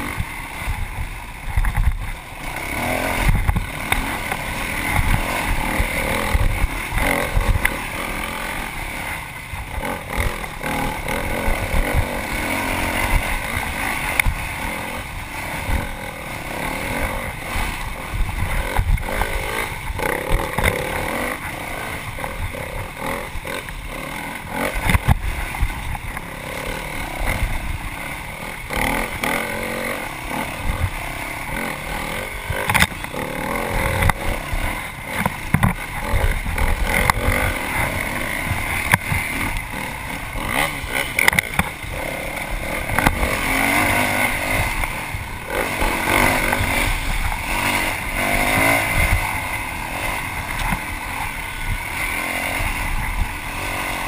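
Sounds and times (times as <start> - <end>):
dirt bike engine revving: 0.0 - 54.0
knocks and clatter from bike: 0.0 - 54.0.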